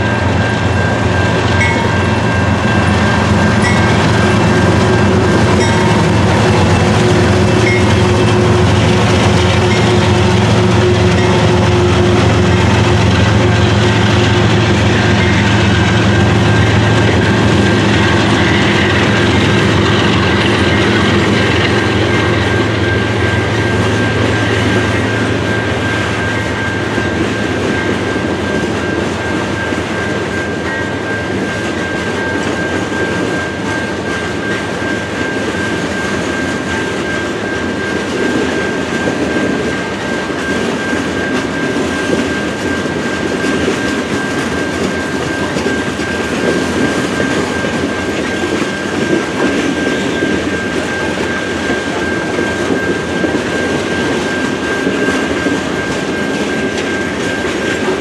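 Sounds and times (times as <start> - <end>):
locomotive engine hum: 0.0 - 58.0
train wheels on rails: 0.0 - 58.0.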